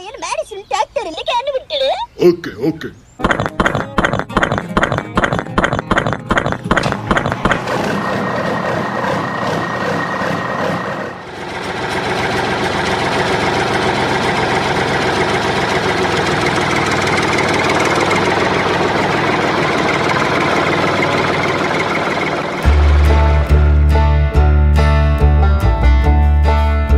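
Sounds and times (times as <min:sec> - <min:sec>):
tractor engine running: 0:03.2 - 0:25.2.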